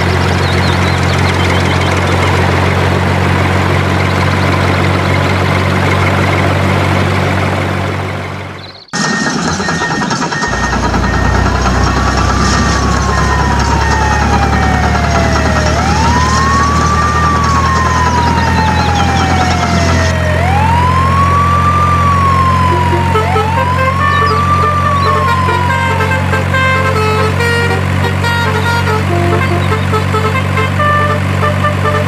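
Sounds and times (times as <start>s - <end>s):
higher siren: 0.0s - 6.6s, 7.3s - 32.0s
low engine hum: 0.0s - 32.0s
siren wailing: 0.0s - 32.0s.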